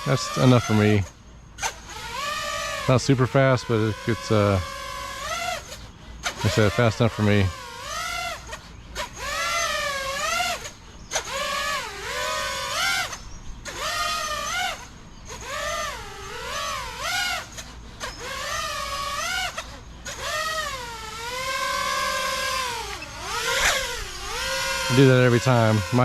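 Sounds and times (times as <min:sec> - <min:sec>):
drone motors and propellers whining: 0:00.0 - 0:26.0.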